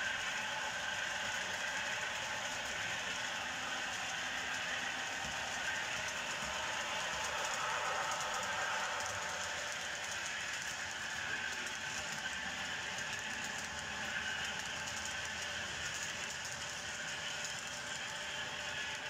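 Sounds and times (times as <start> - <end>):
model train wheels whirring: 0.0 - 19.0.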